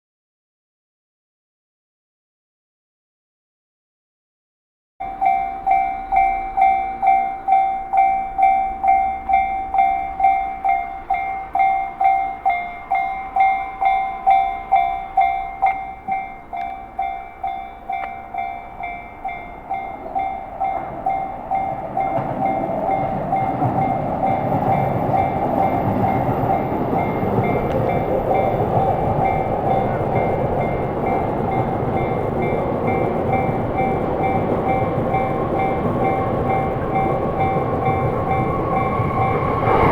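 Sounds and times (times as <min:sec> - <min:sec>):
electric train rumbling: 0:05.0 - 0:39.9
level-crossing warning bell: 0:05.0 - 0:39.9.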